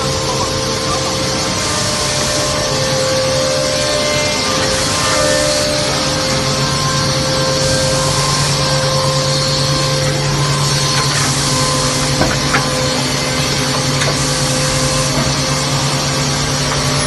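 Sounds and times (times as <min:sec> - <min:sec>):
wood milling machine running: 0:00.0 - 0:17.0.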